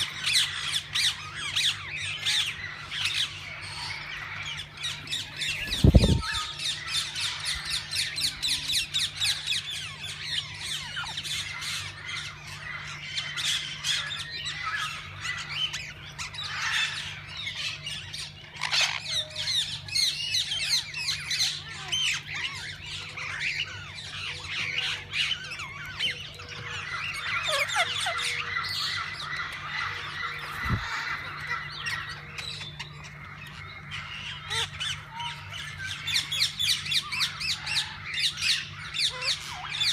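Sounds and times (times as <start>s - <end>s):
parakeets chattering and squawking: 0.0s - 39.9s.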